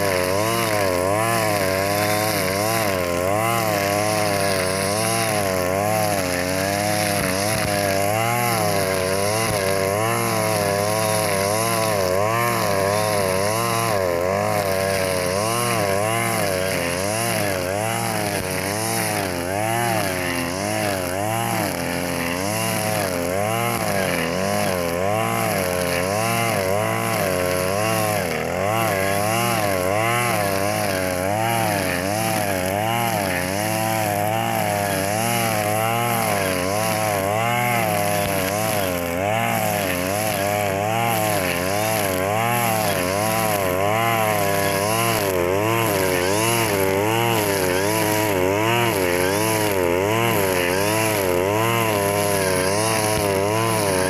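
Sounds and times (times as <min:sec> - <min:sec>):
brush cutter engine running: 0:00.0 - 0:54.0.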